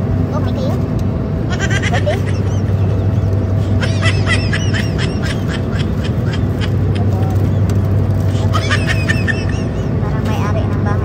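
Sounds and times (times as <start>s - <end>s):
airliner cabin engine drone: 0.0s - 11.0s.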